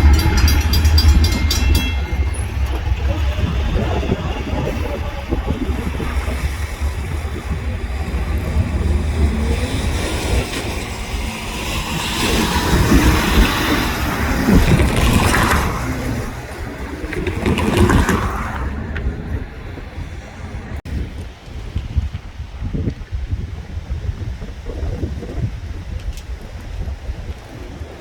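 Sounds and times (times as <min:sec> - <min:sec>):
train engine rumble: 0:00.0 - 0:28.0
train wheel and rail noise: 0:00.0 - 0:28.0.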